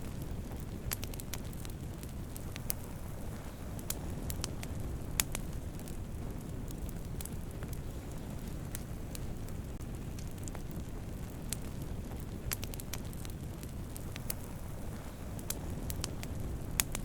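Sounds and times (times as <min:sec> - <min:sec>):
fire crackling and popping: 0:00.0 - 0:17.0
flames rumbling: 0:00.0 - 0:17.0.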